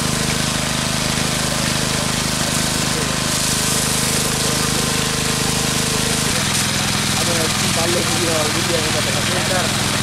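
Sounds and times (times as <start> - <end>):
engine running with pulsing beat: 0.0 - 10.0
water spraying from a hose: 0.0 - 10.0.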